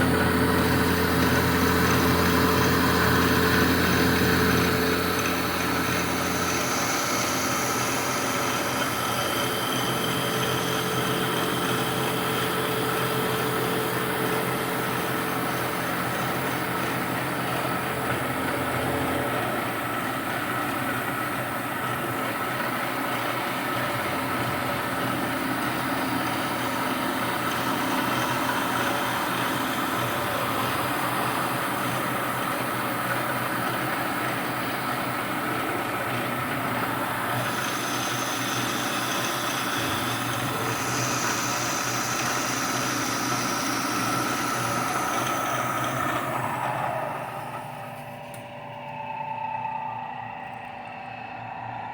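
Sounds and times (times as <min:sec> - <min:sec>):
milling machine hum and whine: 0:00.0 - 0:51.9.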